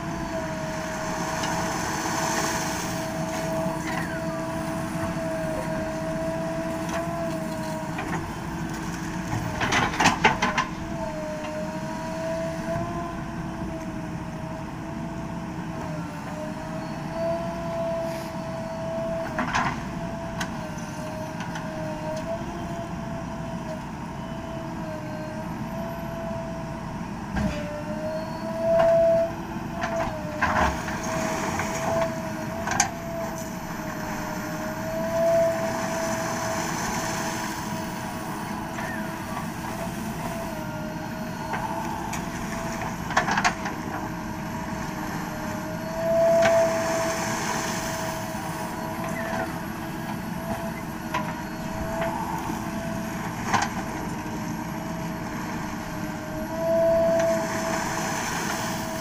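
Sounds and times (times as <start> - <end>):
backhoe engine whine: 0.0 - 59.0.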